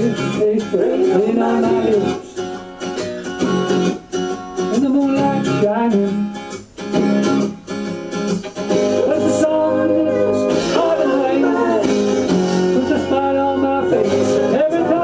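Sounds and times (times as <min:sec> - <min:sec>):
guitar-led country-pop music: 0:00.0 - 0:15.0.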